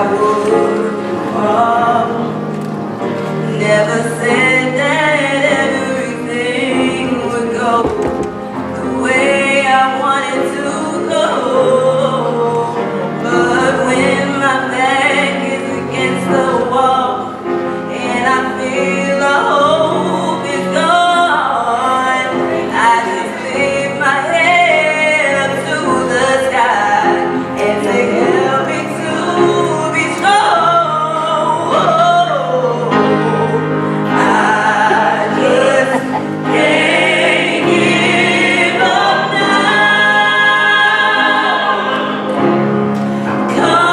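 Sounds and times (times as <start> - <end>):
gospel singing: 0.0 - 43.9
instrumental accompaniment: 0.0 - 43.9.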